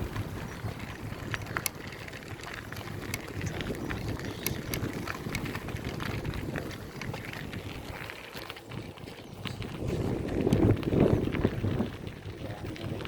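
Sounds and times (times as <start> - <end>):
bicycle clicks and rattles: 0.0 - 13.0
wind rumbling on microphone: 0.0 - 13.0.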